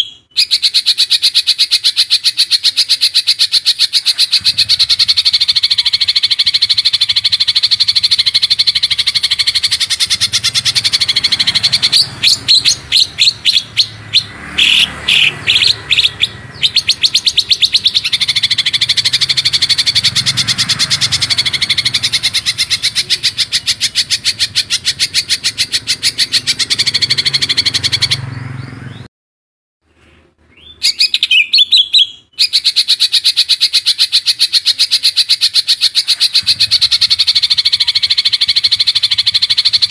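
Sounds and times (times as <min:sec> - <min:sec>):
bird chirps: 0:00.0 - 0:29.1, 0:30.0 - 0:39.9
songbird fast trill: 0:00.0 - 0:29.1, 0:30.5 - 0:39.9.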